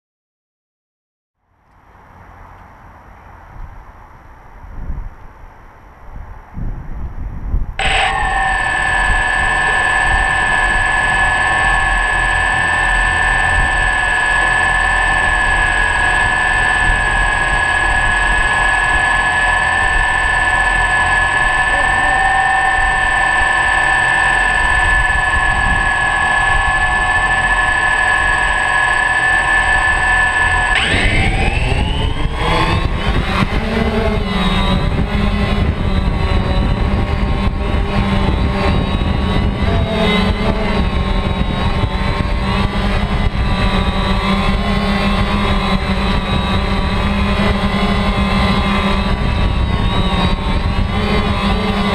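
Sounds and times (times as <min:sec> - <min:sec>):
drone motors whining: 0:07.8 - 0:51.9.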